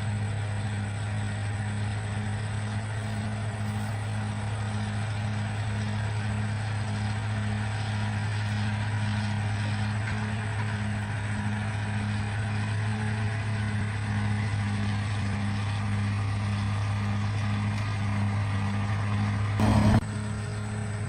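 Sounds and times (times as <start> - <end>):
bulldozer diesel engine running: 0.0 - 21.0.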